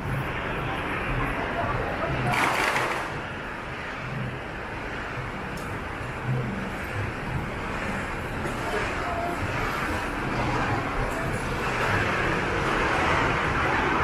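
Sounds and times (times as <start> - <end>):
faint indistinct voices: 0.0 - 14.0
road traffic hum: 0.0 - 14.0.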